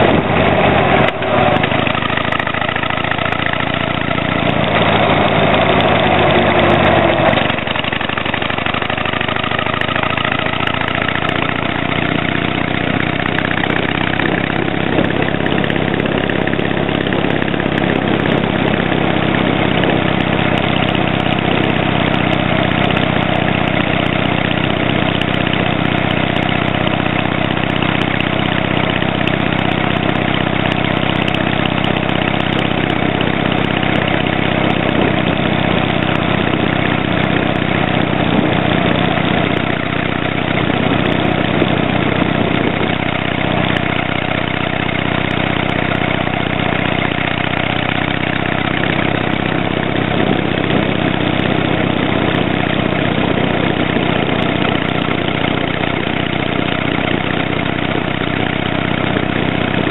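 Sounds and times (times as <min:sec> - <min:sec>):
motorcycle exhaust running steadily: 0:00.0 - 0:59.9.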